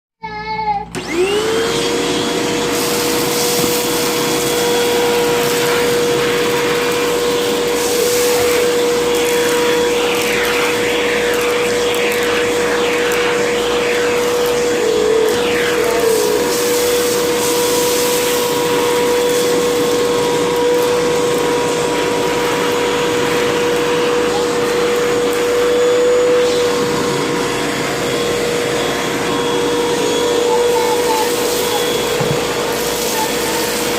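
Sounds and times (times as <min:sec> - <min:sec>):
vacuum cleaner motor whine: 0:00.4 - 0:33.9.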